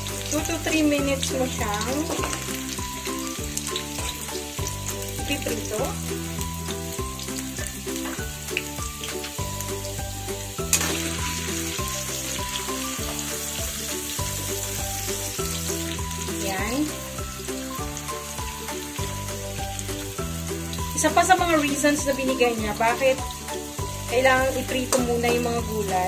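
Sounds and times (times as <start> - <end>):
background music: 0.0 - 26.0
vegetables sizzling in oil: 0.0 - 26.0.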